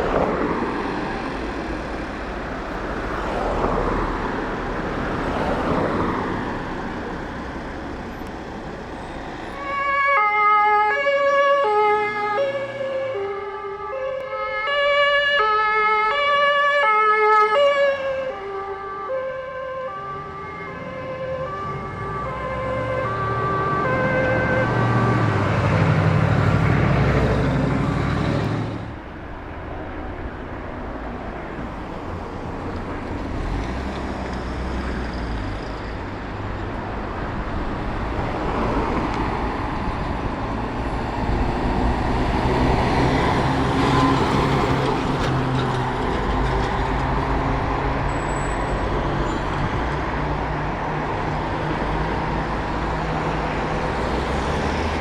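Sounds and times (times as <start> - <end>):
heavy road vehicles driving by: 0.0 - 55.0.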